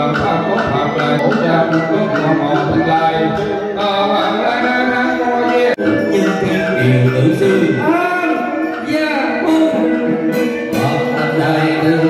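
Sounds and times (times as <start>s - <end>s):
instrumental music: 0.0s - 12.0s
ritual chanting: 0.0s - 12.0s.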